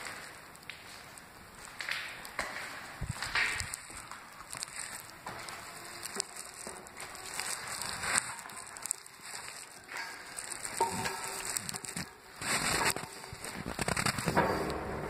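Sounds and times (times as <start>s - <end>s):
faint crackles: 0.0s - 15.0s
footsteps crunching on gritty floor: 0.0s - 15.0s.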